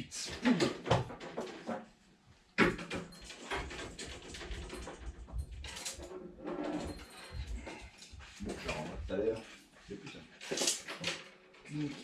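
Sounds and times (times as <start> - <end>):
rustling and clattering: 0.3 - 12.0.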